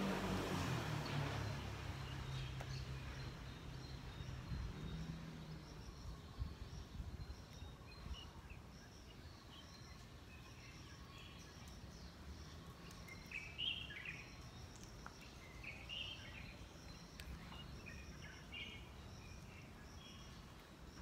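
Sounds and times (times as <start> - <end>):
birds chirping: 0.8 - 21.0.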